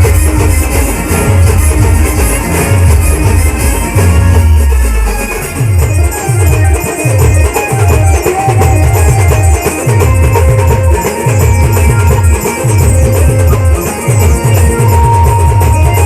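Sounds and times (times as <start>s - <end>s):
instrumental band music: 0.0s - 16.0s.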